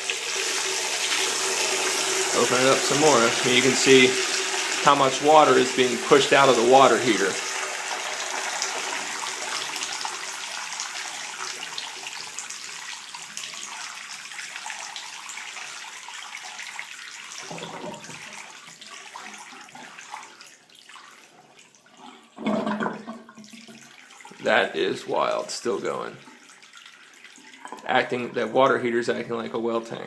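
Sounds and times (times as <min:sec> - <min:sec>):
water running from faucet: 0:00.0 - 0:22.3, 0:23.2 - 0:28.8.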